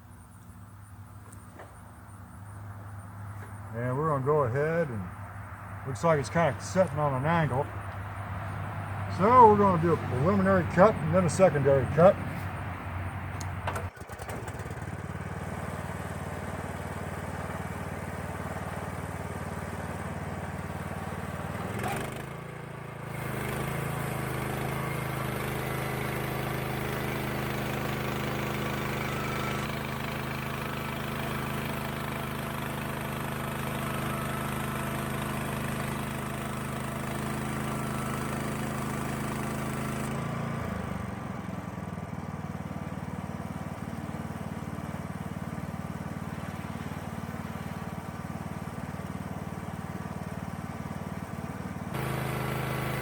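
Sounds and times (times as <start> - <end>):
sawmill engine running: 3.3 - 53.0.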